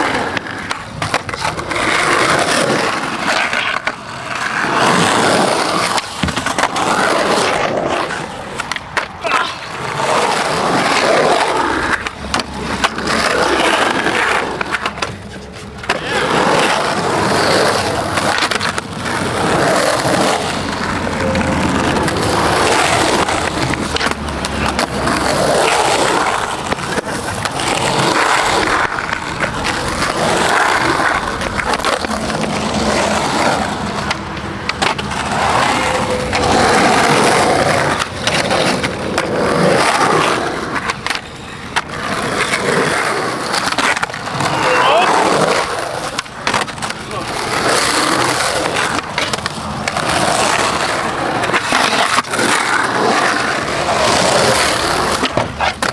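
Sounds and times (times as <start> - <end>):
skateboard clacks: 0.0 - 55.9
skateboard wheels rolling on concrete: 0.0 - 55.9.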